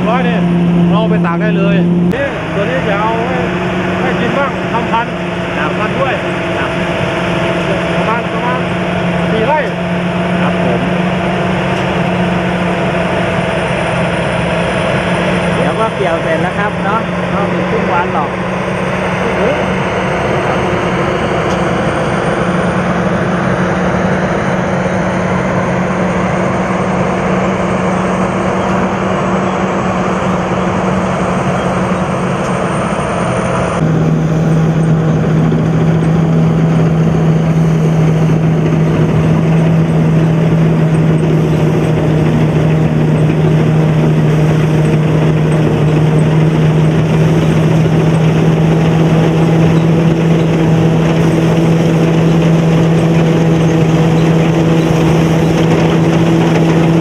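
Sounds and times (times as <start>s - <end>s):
combine harvester hum: 0.0s - 57.0s.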